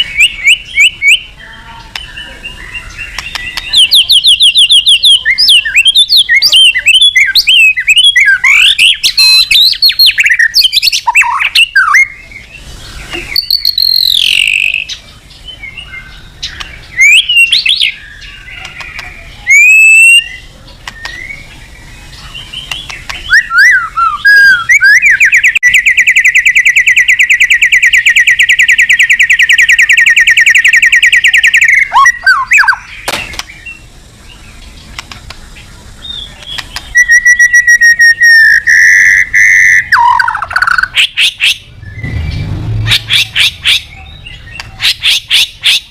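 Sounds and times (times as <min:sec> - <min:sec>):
bird singing whistled phrases: 0:00.0 - 0:34.5, 0:36.0 - 0:45.9
rapid bird trill: 0:00.0 - 0:45.9.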